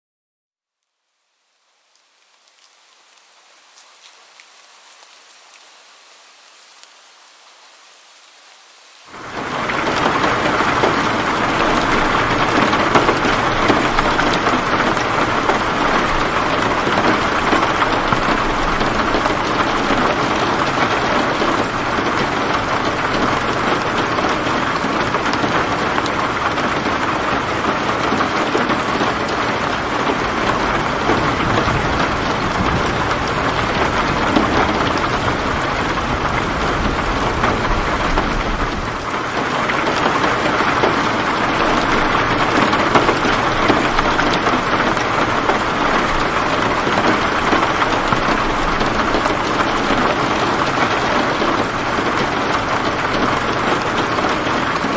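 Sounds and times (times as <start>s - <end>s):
heavy rain patter: 1.0s - 54.9s.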